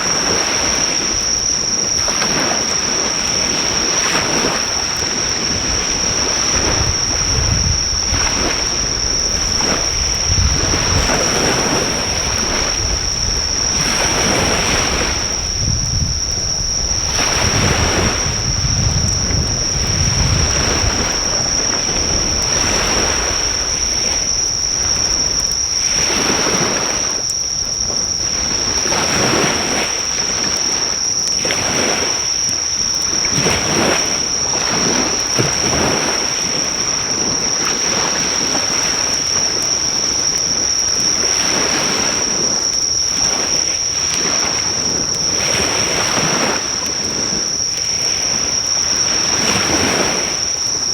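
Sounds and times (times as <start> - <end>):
high-pitched insect trill: 0.0 - 50.9
waves washing on shore: 0.0 - 50.9.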